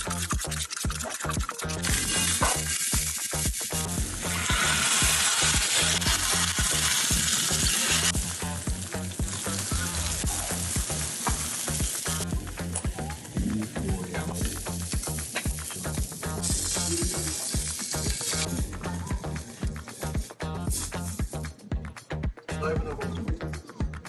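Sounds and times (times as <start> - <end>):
beef patty sizzling on griddle: 0.0 - 21.6.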